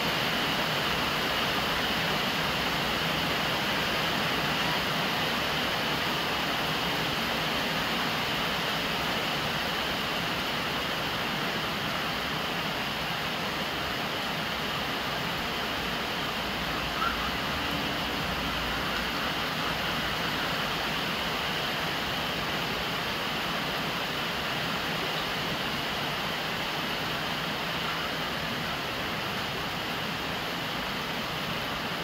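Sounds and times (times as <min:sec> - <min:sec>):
rainwater pouring from downpipe: 0:00.0 - 0:32.0
steady rain: 0:00.0 - 0:32.0.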